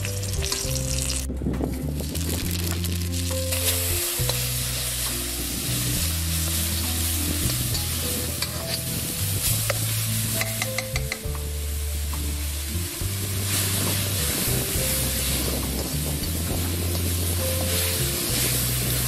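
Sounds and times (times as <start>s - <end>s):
background music with bass: 0.0s - 19.0s
hot oil sizzling: 0.0s - 19.0s.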